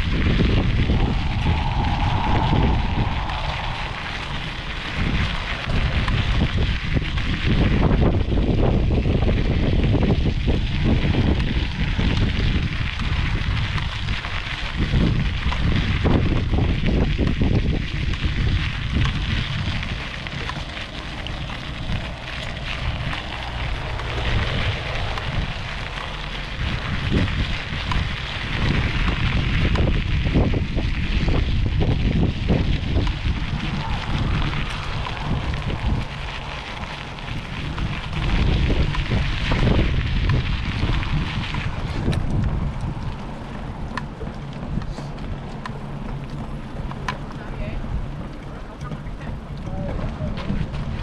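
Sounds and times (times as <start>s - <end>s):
crackling hiss: 0.0s - 48.2s
wind buffeting microphone: 0.0s - 51.0s.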